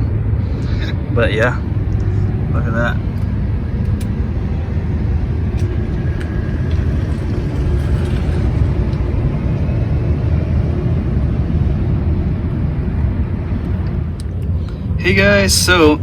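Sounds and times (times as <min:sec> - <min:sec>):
steady low rumble: 0:00.1 - 0:15.3.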